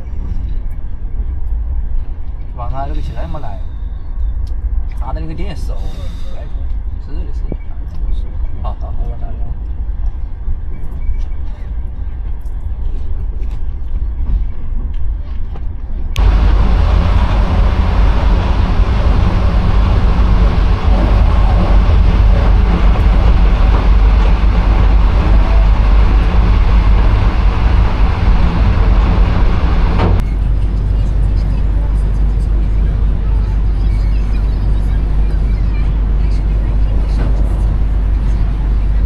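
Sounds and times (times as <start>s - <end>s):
moving train rumbling: 0.0s - 39.0s.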